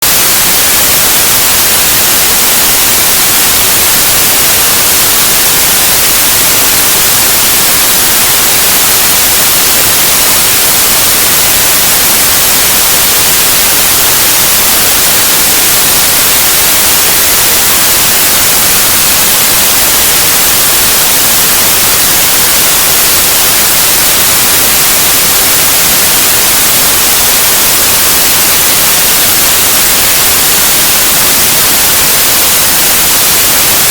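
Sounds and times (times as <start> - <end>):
white noise hiss: 0.0 - 33.9.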